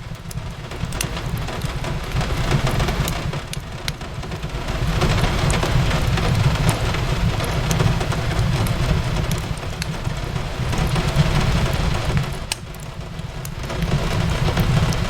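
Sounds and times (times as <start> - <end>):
rain on a window: 0.0 - 15.0
wood fire crackling: 0.0 - 15.0.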